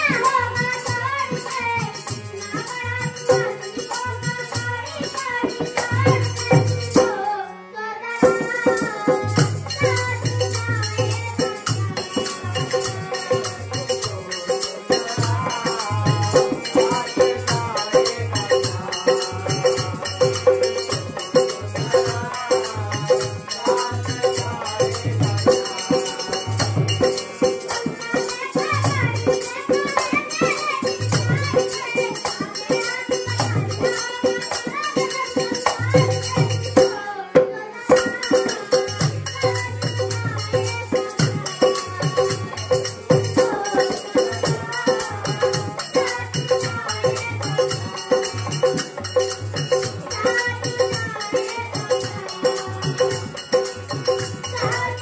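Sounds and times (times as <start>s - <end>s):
dholak drum beat: 0.0s - 55.0s
harmonium drone: 0.0s - 55.0s
person singing: 0.0s - 55.0s.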